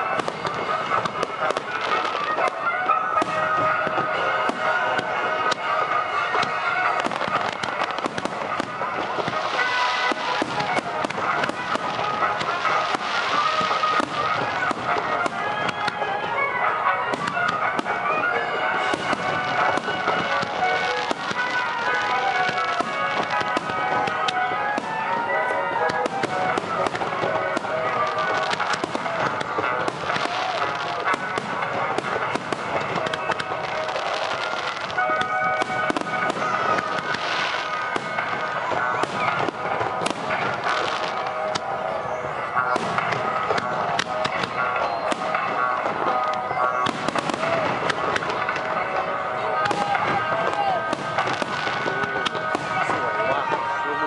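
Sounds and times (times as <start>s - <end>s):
fireworks bangs and crackles: 0.0s - 54.0s
music with held notes: 0.0s - 54.0s
voices: 0.0s - 54.0s.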